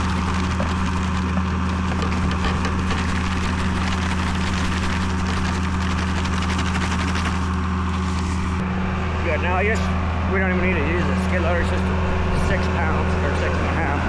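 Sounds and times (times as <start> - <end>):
engine droning steadily: 0.0 - 14.0.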